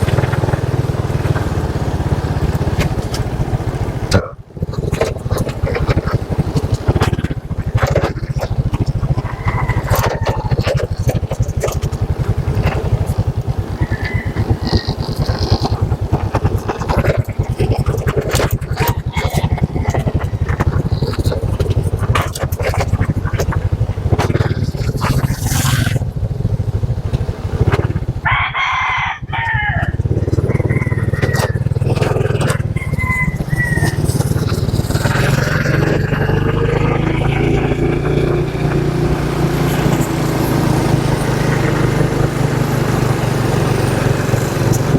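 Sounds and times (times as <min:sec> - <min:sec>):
motorcycle engine drone: 0:00.0 - 0:44.9
wind and road noise: 0:00.0 - 0:44.9.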